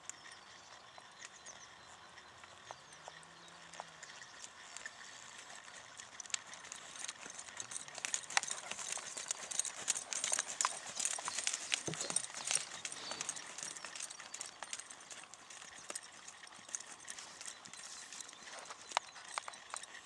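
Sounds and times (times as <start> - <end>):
horse hooves walking on sand: 0.0 - 20.0.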